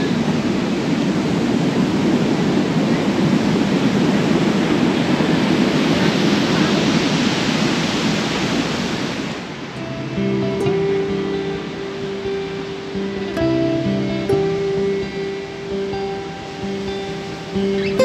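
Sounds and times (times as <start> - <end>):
sea surf: 0.0 - 18.0
wind: 0.0 - 18.0.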